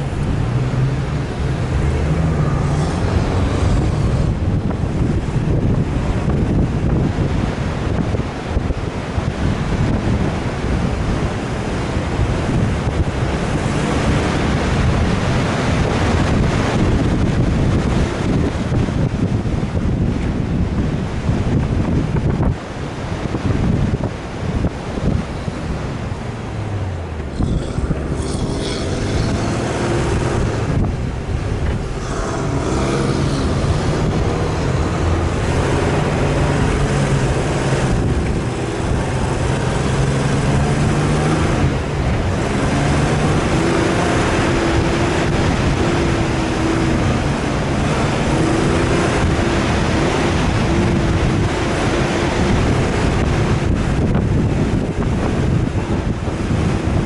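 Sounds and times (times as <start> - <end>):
off-road vehicle engine revving: 0.0 - 20.2, 24.7 - 57.0
wind noise on microphone: 0.0 - 57.0.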